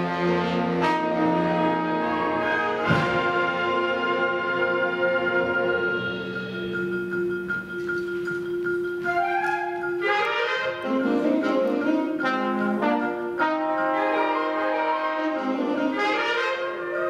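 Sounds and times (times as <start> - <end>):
concert band playing: 0.0 - 17.0.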